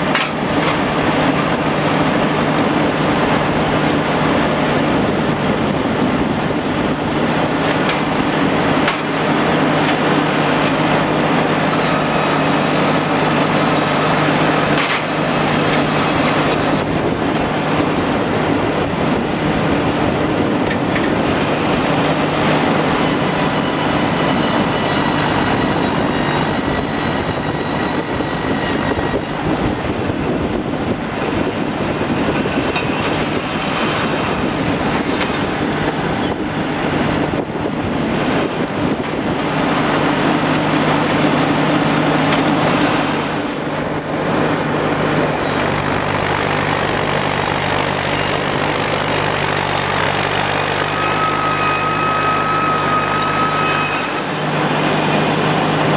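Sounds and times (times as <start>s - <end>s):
engine drone: 0.0s - 55.9s
sawmill blade whining: 0.0s - 55.9s.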